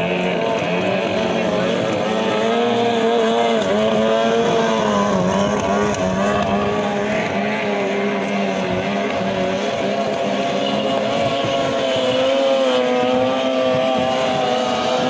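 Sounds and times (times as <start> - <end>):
outboard engine at high revs: 0.0 - 15.0.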